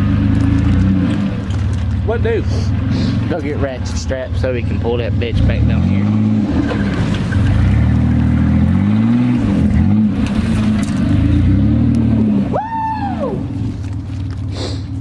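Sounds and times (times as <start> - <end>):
pickup truck engine revving: 0.0 - 15.0.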